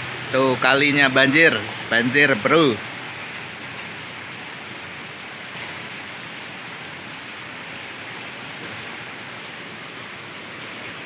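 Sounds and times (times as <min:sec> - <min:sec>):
flooding river: 0:00.0 - 0:11.0
heavy rain: 0:00.0 - 0:11.0.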